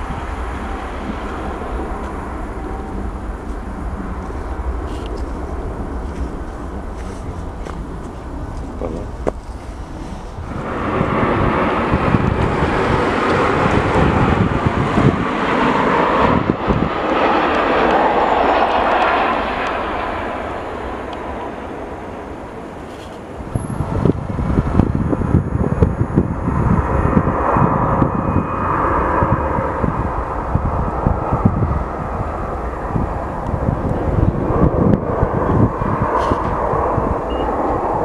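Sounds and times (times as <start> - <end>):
gusty low rumble: 0.0 - 38.0
jet airliner engine rush: 0.0 - 38.0.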